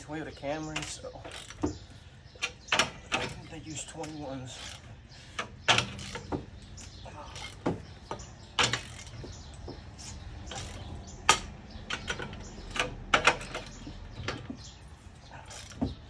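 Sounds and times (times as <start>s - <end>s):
ratchet clicking on lug nuts: 0.3s - 16.0s.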